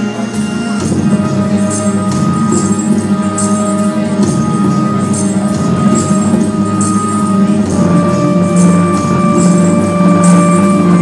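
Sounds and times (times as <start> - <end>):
held synth tones: 0.0 - 11.0
jingling percussion hits: 0.0 - 11.0.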